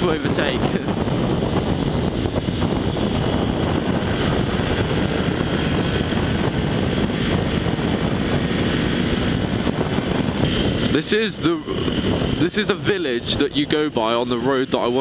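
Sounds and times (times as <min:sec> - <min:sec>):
motorcycle engine running: 0:00.0 - 0:15.0
wind rush: 0:00.0 - 0:15.0.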